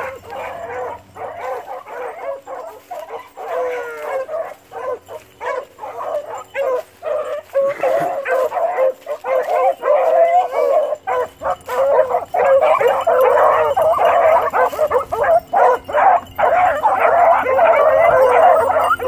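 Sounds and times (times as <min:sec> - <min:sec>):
pack of dogs baying: 0:00.0 - 0:19.0.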